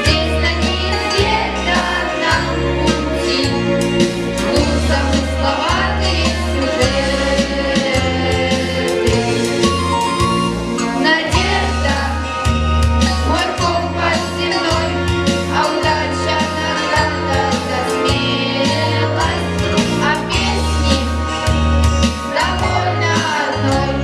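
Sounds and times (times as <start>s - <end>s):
instrumental backing track: 0.0s - 24.0s.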